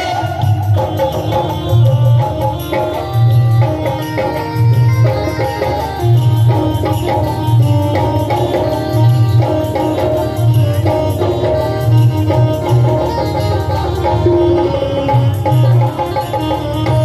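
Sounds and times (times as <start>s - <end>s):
keyboard melody: 0.0s - 17.0s.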